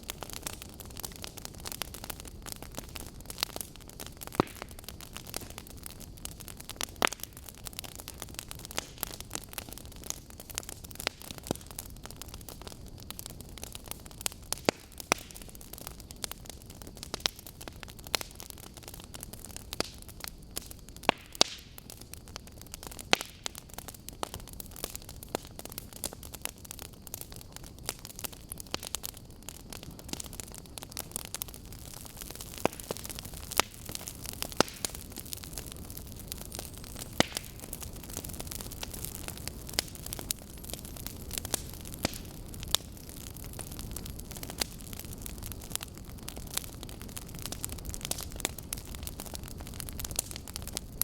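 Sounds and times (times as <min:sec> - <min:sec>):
fire low rushing hiss: 0:00.0 - 0:51.0
logs crackling and popping: 0:00.0 - 0:51.0.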